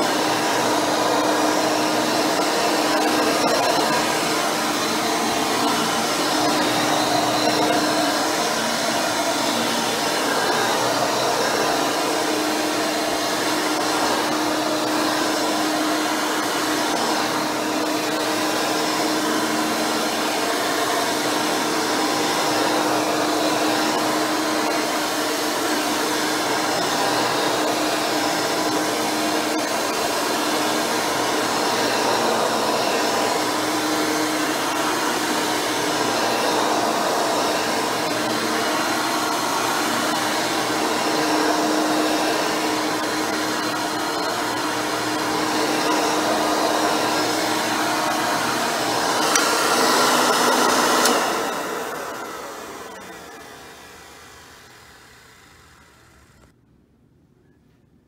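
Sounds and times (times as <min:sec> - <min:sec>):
upright vacuum cleaner running: 0:00.0 - 0:56.6.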